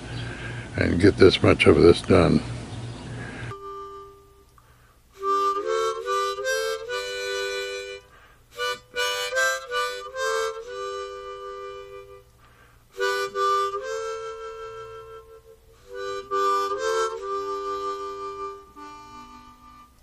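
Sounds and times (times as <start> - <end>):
harmonica chords: 3.1 - 20.0.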